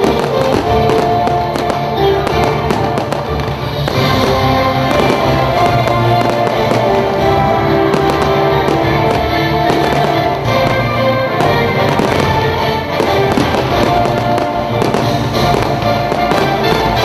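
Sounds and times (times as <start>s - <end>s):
fireworks bursting and crackling: 0.0s - 17.0s
loud music: 0.0s - 17.0s.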